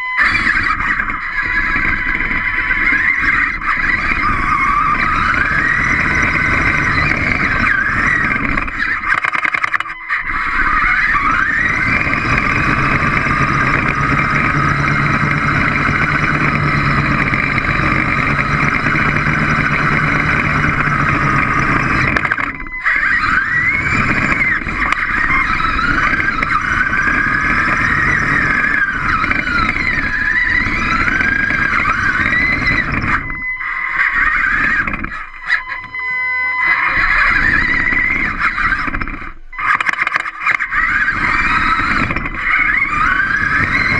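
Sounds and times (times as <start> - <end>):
robot motors and gears whining: 0.0 - 43.9.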